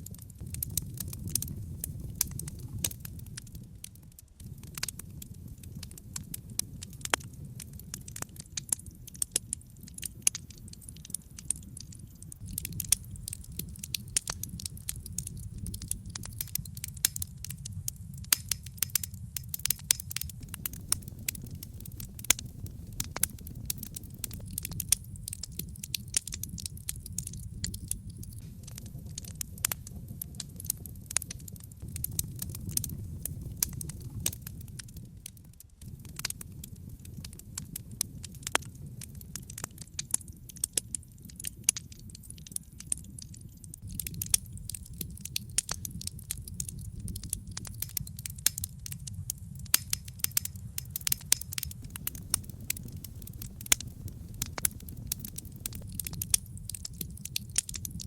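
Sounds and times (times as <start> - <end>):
fire flames rumbling: 0.0 - 58.0
wood crackling and popping: 0.0 - 58.0.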